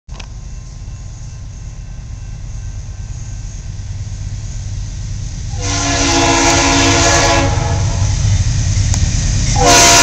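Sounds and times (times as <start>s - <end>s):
distant diesel locomotives rumbling: 0.1s - 10.0s.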